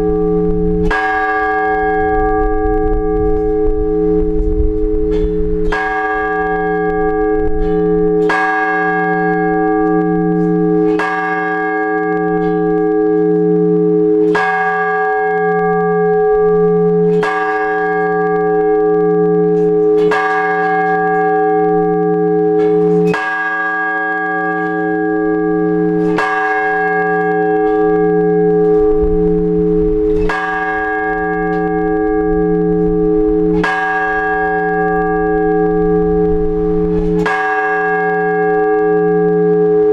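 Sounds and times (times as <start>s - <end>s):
large church bell ringing: 0.0s - 39.9s.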